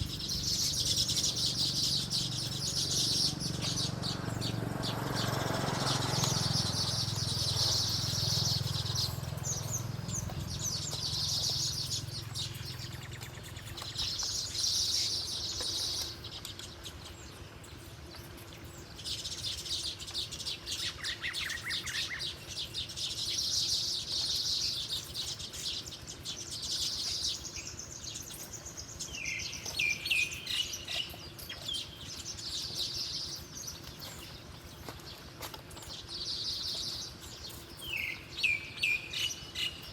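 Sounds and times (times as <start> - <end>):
lower bird chirps: 0.0 - 39.9
small birds twittering: 0.0 - 39.9.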